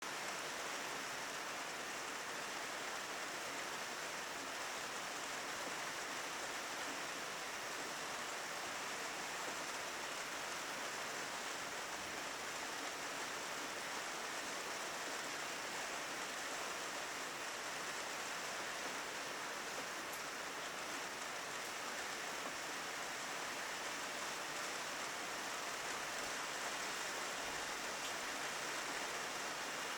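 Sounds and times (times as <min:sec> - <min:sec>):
steady rainfall: 0:00.0 - 0:29.9.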